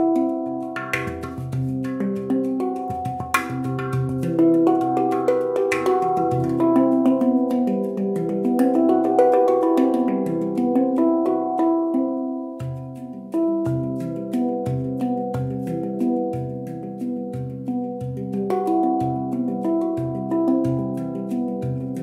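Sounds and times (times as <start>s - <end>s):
handpan played with fingers: 0.0s - 22.0s.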